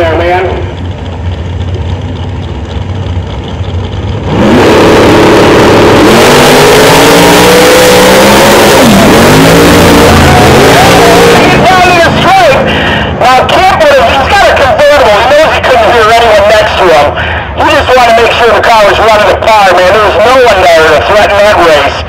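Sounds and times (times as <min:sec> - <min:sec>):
racing car engines at full throttle: 0:00.0 - 0:22.0
racing car engines idling: 0:00.0 - 0:22.0.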